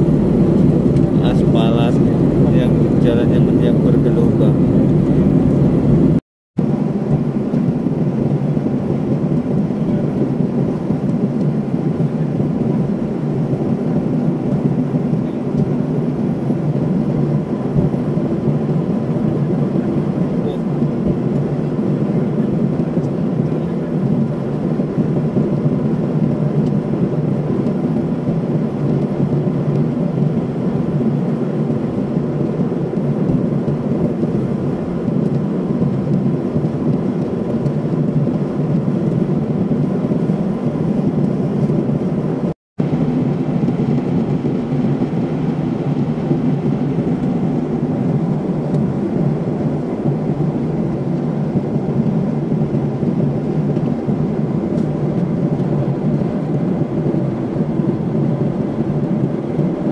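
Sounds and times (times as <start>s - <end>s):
jet cabin engine rush: 0.0s - 59.9s.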